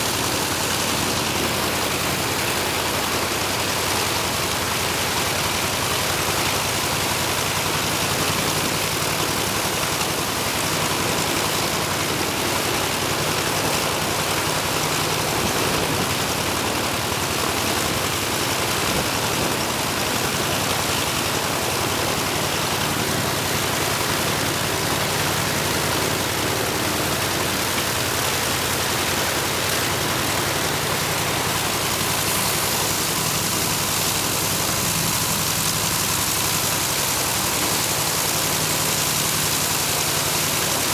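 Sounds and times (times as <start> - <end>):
propeller aircraft engine running: 0.0 - 40.9.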